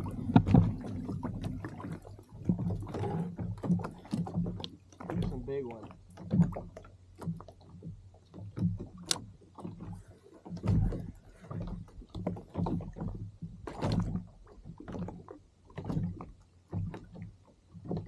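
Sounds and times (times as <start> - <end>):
water slapping against kayak hull: 0.0 - 18.0.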